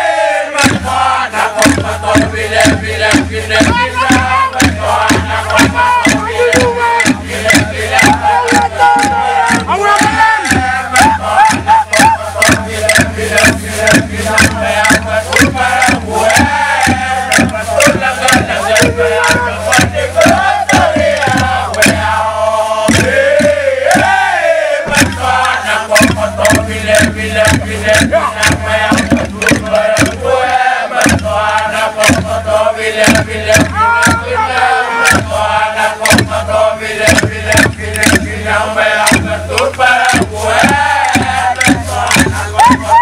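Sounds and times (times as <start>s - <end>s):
men chanting in unison: 0.0s - 43.0s
struck bamboo tubes beat: 0.6s - 24.2s, 24.8s - 43.0s.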